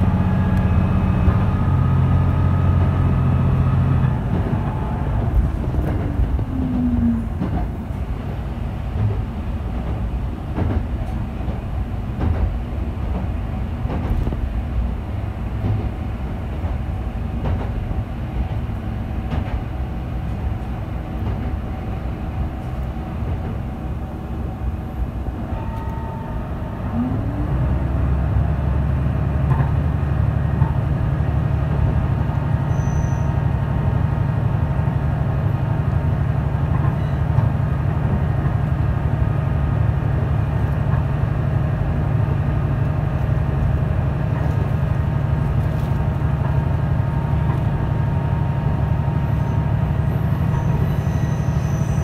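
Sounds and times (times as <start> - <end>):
railcar low rumble: 0.0 - 52.0.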